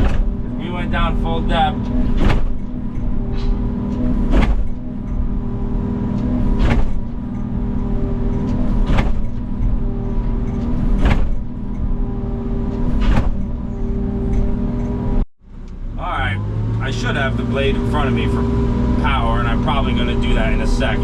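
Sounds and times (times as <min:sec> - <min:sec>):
excavator diesel engine running: 0:00.0 - 0:15.2, 0:15.8 - 0:21.0.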